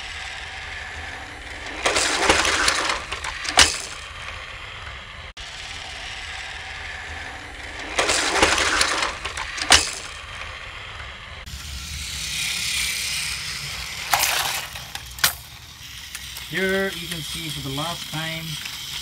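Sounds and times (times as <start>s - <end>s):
toy train motor and wheel rattle: 0.0s - 19.0s.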